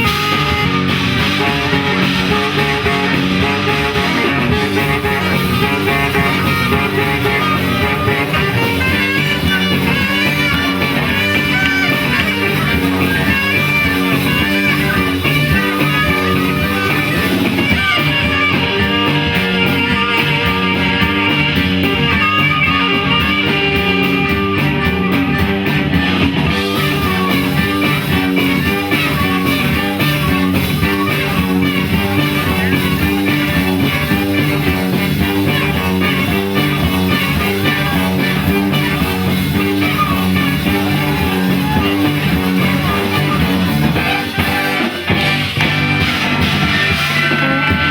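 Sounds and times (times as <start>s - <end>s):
guitar: 0.0s - 47.9s
live band playing: 0.0s - 47.9s.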